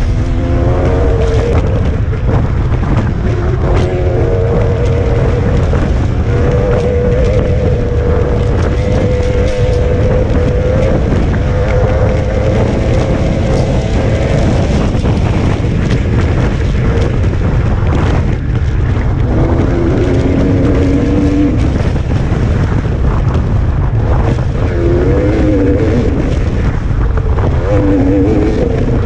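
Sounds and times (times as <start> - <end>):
motorcycle engine revving: 0.0 - 26.7
wind on microphone: 0.0 - 29.0.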